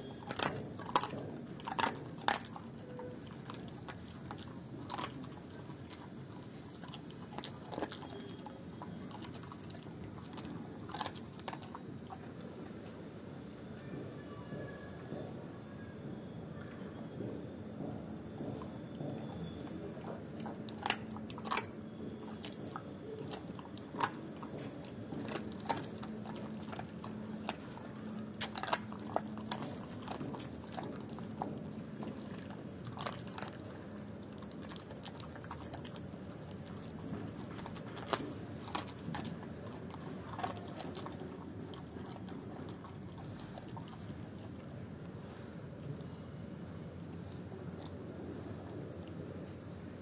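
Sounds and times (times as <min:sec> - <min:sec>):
dog crunching bones: 0:00.0 - 0:13.1, 0:16.6 - 0:50.0.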